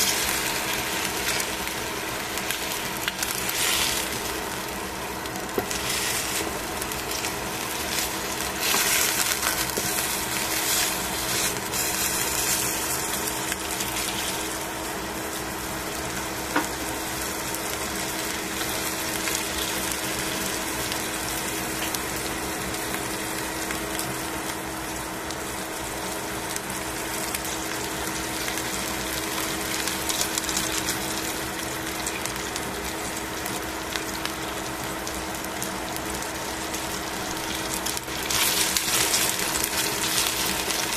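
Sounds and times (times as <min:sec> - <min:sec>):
chicken sizzling in frying pan: 0:00.0 - 0:40.9
steady low hum: 0:00.0 - 0:40.9.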